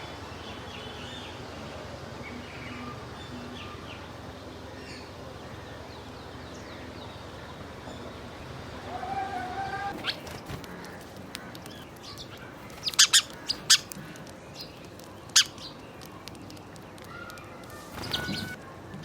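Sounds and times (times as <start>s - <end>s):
birds chirping: 2.2s - 19.0s.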